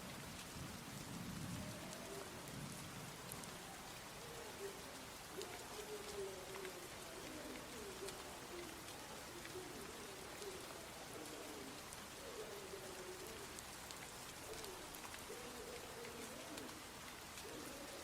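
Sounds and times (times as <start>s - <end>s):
steady rain falling: 0.0s - 18.0s
bird cooing: 1.5s - 2.4s, 3.4s - 18.0s.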